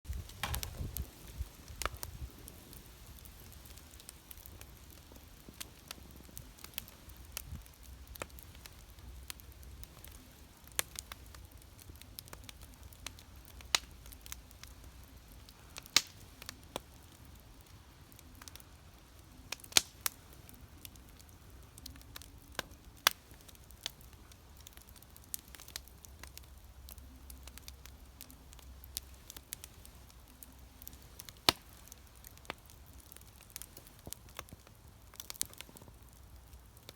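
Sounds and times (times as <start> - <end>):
campfire crackling and popping: 0.1 - 36.9.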